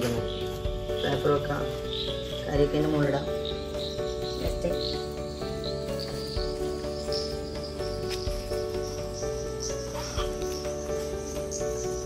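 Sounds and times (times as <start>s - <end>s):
crickets chirping: 0.0s - 12.0s
music of held tones: 0.0s - 12.0s.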